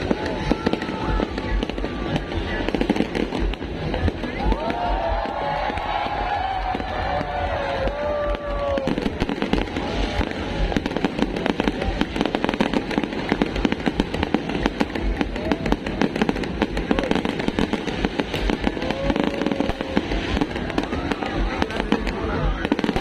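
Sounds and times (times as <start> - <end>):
deep fireworks booms: 0.0 - 23.0
fireworks bangs and crackles: 0.0 - 23.0.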